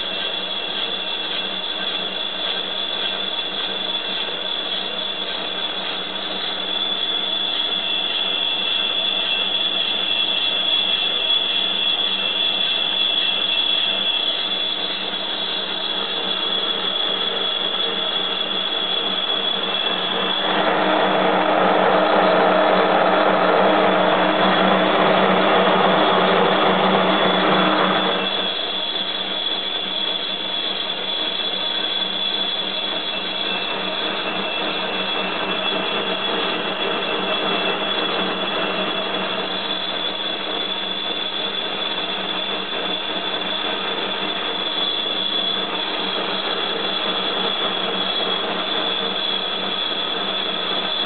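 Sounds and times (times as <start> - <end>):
high machine whine: 0.0 - 51.0
lathe cutting metal: 0.0 - 51.0
rough machine noise: 0.0 - 51.0.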